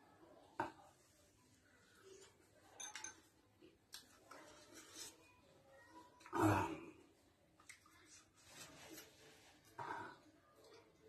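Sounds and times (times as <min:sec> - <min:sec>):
soft chewing: 0:00.5 - 0:11.0.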